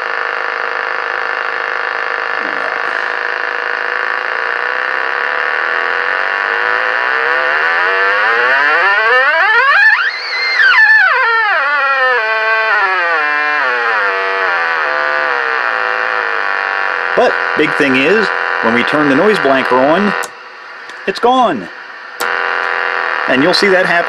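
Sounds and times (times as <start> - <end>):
pitch-gliding buzz from speaker: 0.0 - 24.0.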